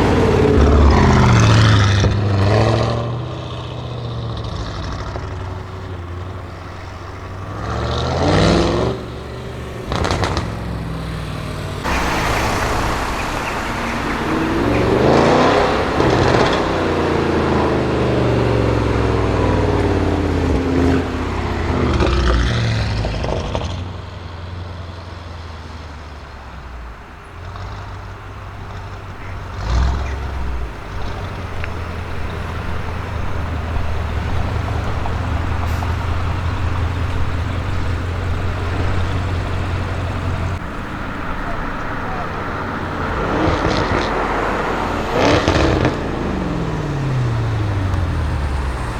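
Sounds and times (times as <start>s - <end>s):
car accelerating past: 0.0s - 48.9s
car engine revving: 0.0s - 48.9s
exhaust pop: 4.3s - 24.0s, 27.4s - 48.9s.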